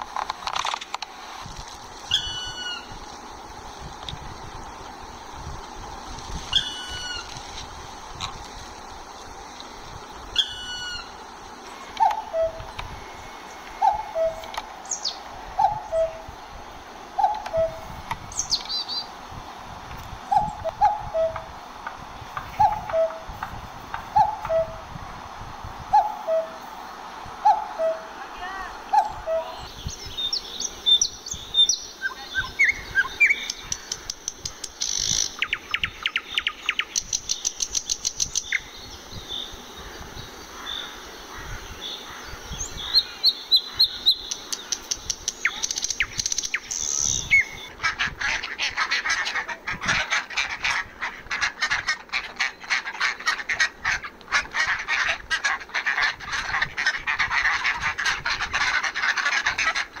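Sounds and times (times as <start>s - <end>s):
continuous chatter of bird calls: 0.0s - 60.0s
nightingale singing: 2.0s - 3.6s, 5.2s - 7.5s, 9.7s - 16.6s, 17.2s - 19.2s, 20.3s - 21.5s, 22.2s - 24.9s, 25.9s - 60.0s.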